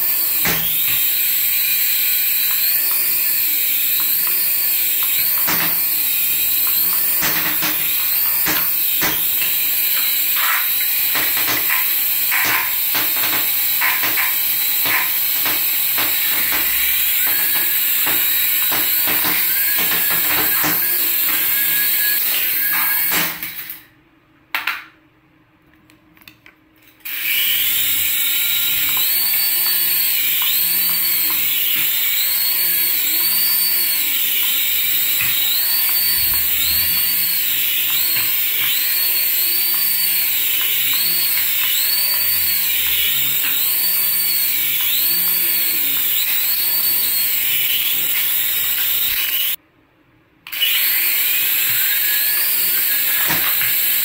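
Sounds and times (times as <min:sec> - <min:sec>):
toy helicopter rotors whirring: 0:00.0 - 0:23.8, 0:27.0 - 0:49.6, 0:50.5 - 0:54.0.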